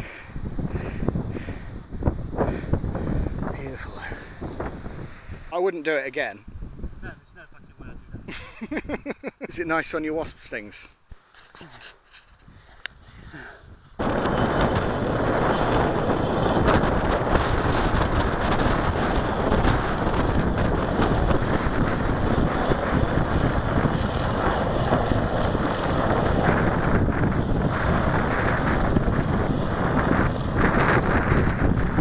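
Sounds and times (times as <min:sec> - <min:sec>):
wind on microphone: 0:00.0 - 0:05.6, 0:06.4 - 0:10.4, 0:12.2 - 0:32.0.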